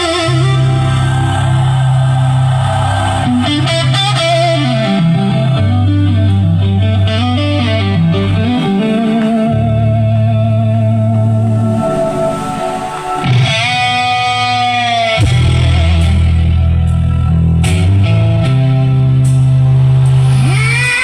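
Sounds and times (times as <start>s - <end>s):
guitar melody: 3.3s - 21.0s
low bass notes: 3.5s - 20.6s.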